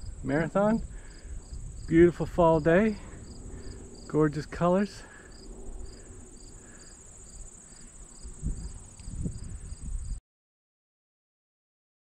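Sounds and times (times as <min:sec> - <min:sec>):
crickets chirping: 0:00.0 - 0:10.2
low rumbles: 0:00.0 - 0:10.2.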